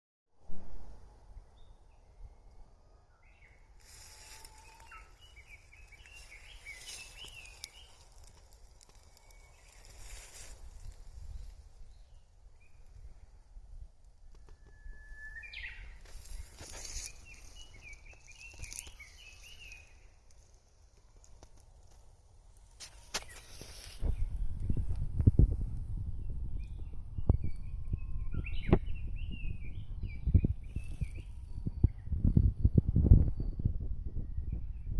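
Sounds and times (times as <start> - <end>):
songbirds singing: 1.4 - 13.5, 14.3 - 25.0, 26.0 - 34.9.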